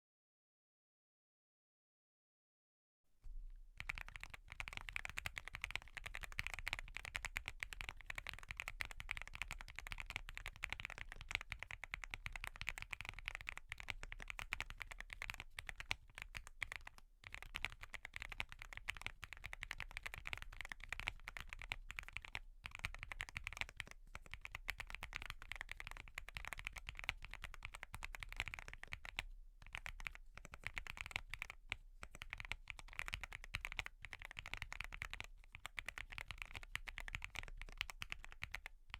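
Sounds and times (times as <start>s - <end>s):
fast typing on mechanical keyboard: 3.8s - 38.9s.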